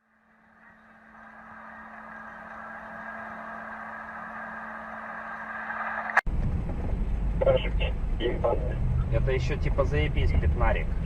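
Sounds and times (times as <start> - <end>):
car road and engine noise: 0.0 - 11.0
constant low hum: 0.0 - 11.0.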